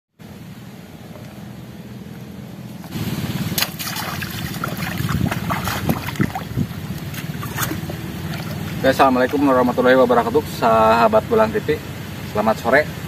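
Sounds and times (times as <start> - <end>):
water rushing along channel: 0.2 - 13.0.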